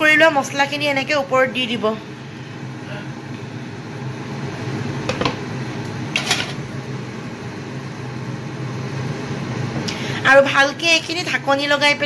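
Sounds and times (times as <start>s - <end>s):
gas stove hiss: 0.0s - 12.0s.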